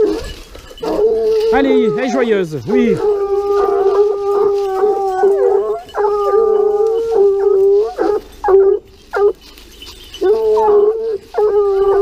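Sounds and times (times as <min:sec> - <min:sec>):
hounds baying and howling: 0:00.0 - 0:12.0.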